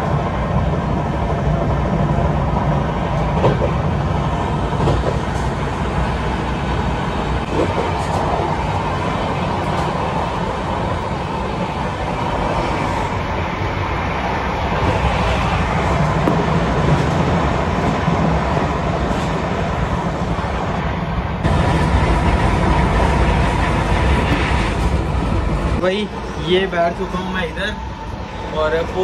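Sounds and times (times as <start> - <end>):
passing train: 0.0 - 29.0
train rumbling at speed: 0.0 - 29.0.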